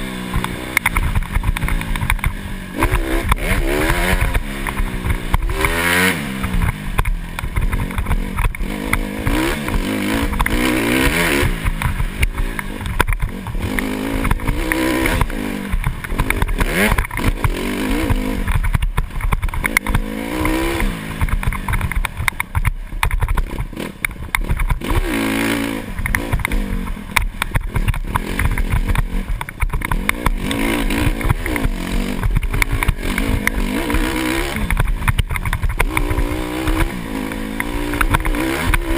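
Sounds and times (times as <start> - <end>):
dirt bike engine revving: 0.0 - 38.9
knocks and clatter from bumps: 0.3 - 38.9.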